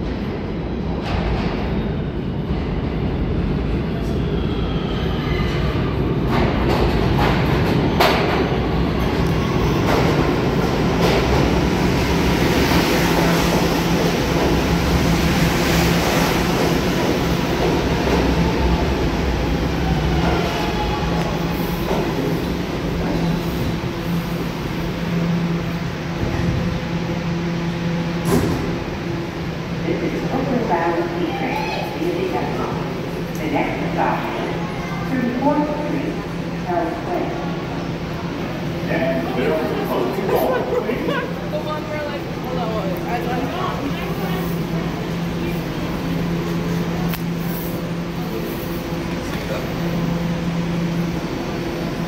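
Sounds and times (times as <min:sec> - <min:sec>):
subway wheels rumbling on rails: 0:00.0 - 0:52.0.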